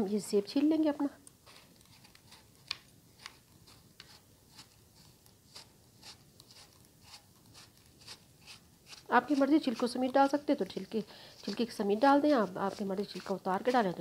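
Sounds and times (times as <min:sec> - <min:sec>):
peeler scraping apple skin: 0:01.4 - 0:14.0.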